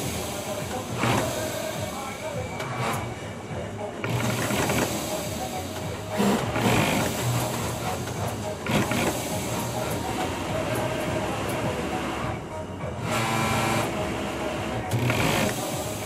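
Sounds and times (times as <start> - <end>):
industrial sewing machine running: 0.0 - 3.3, 4.0 - 12.3, 12.9 - 16.0.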